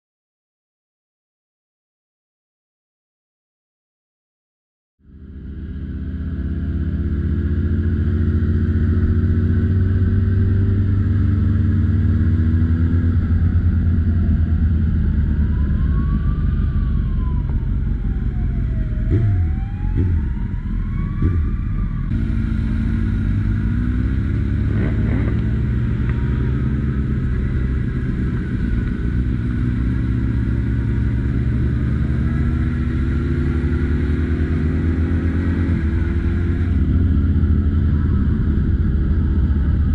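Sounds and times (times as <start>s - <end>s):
motorcycle engine running: 5.0s - 39.9s
wind and road noise: 5.0s - 39.9s.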